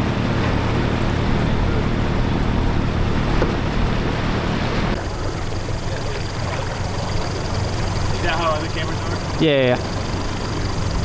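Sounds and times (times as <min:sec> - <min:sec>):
boat motor running: 0:00.0 - 0:11.0
water rushing against hull: 0:00.0 - 0:11.0.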